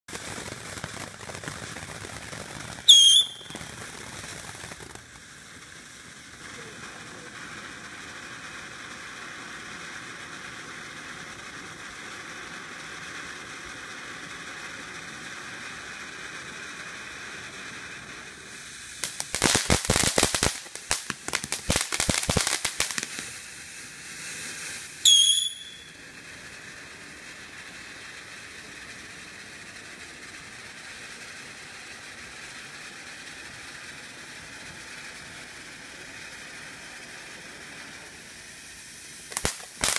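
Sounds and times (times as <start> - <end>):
fireworks fountain hissing: 0.0 - 39.9.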